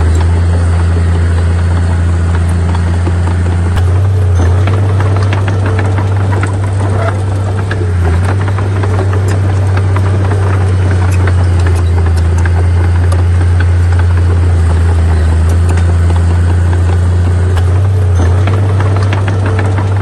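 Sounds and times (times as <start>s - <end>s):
clicks and clanks: 0.0s - 20.0s
diesel engine deep drone: 0.0s - 20.0s.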